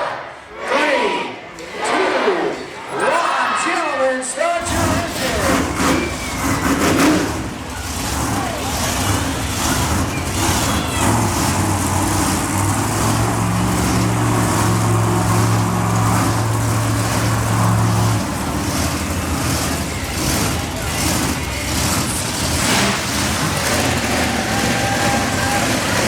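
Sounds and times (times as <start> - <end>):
arena noise: 0.0 - 26.0
monster truck engine: 2.5 - 26.0.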